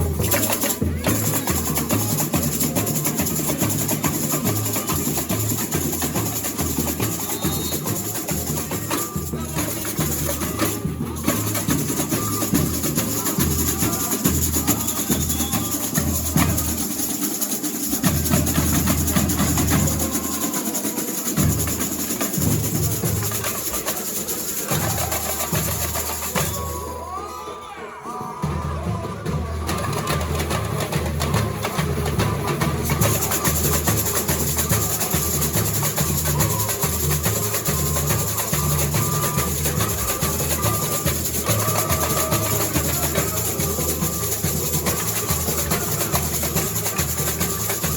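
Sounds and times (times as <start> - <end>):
snare drums and shakers rattling: 0.0 - 27.3, 28.8 - 47.9.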